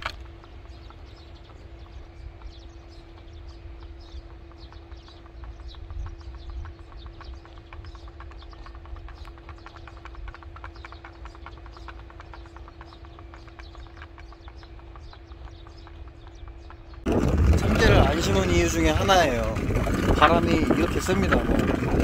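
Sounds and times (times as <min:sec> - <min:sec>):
steady hum: 0:00.0 - 0:22.0
wind rumble on microphone: 0:00.0 - 0:22.0
pinwheel repeller clicking rapidly: 0:03.2 - 0:22.0.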